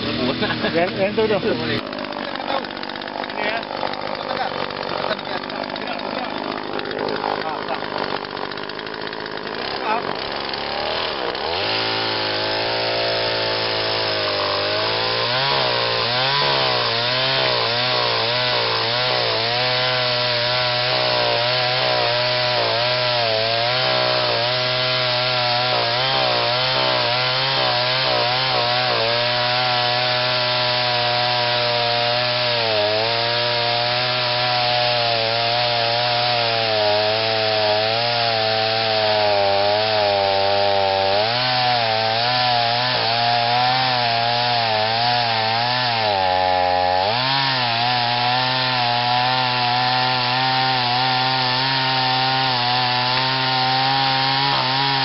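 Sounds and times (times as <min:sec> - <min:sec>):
chainsaw cutting into log: 0:00.0 - 0:55.0.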